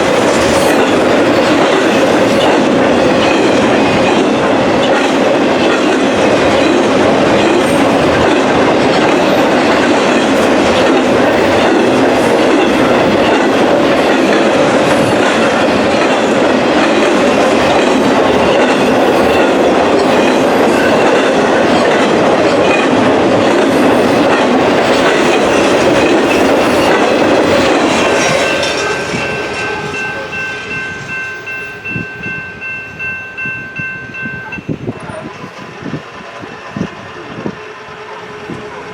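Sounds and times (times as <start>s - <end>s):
high ringing from rails: 0.0s - 35.3s
train wheels on rail clacking: 0.0s - 38.9s.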